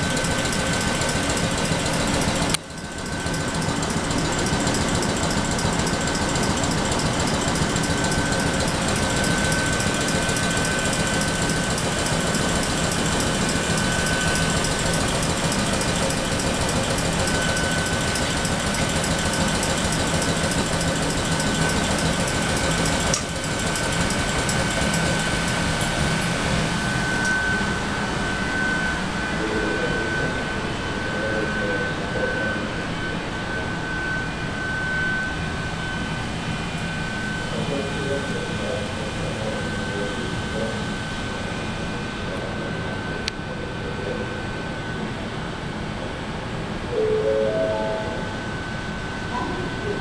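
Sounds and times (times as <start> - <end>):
air compressor running: 0.0 - 50.0
high whine: 0.0 - 50.0.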